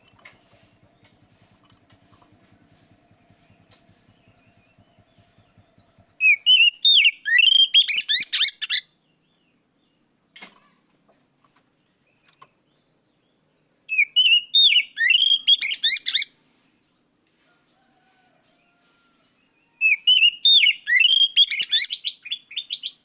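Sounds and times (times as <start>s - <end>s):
bird singing: 0.0s - 10.4s, 11.4s - 16.3s, 19.3s - 23.0s.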